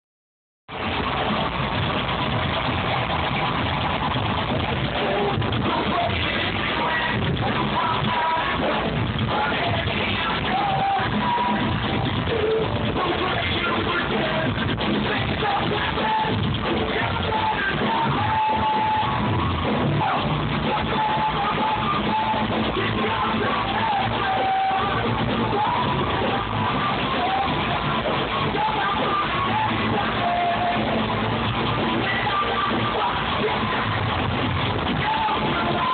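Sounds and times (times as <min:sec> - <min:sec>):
loud live rock band: 0:00.7 - 0:35.9.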